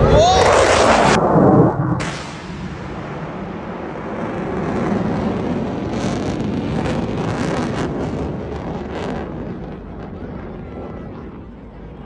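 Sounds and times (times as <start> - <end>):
fighter jet engine rumble: 0.0 - 12.0
wind buffeting microphone: 0.0 - 12.0.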